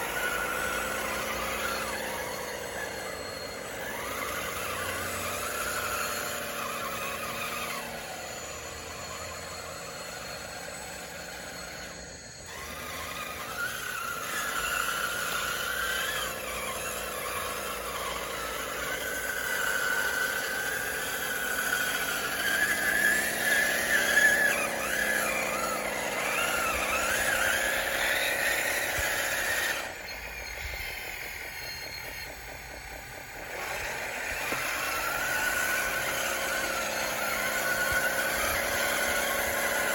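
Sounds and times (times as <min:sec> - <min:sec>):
electric motors and gearboxes whining: 0:00.0 - 0:39.9.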